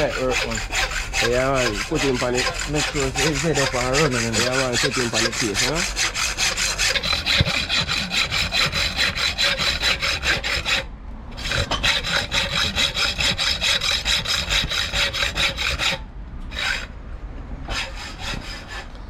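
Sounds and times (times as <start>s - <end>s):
hacksaw cutting metal: 0.0s - 16.9s, 17.7s - 19.0s.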